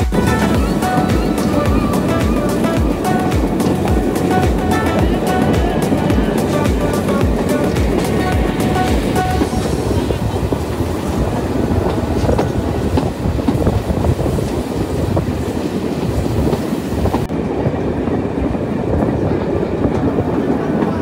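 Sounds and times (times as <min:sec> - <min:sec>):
steam train rumbling on track: 0:00.0 - 0:21.0
train cars knocking: 0:00.0 - 0:21.0.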